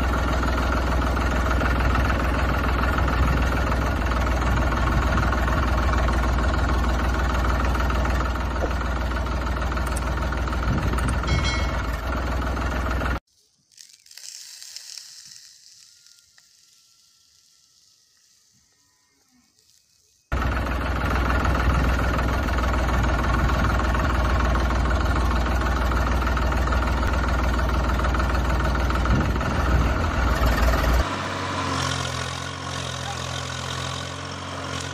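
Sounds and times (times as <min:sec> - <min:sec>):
engine rumbling: 0:00.0 - 0:13.3, 0:20.1 - 0:34.9.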